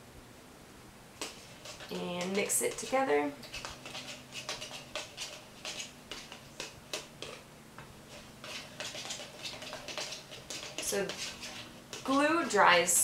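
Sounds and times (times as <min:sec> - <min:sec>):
paintbrush scraping plastic tub: 0:01.2 - 0:07.4, 0:08.0 - 0:13.0.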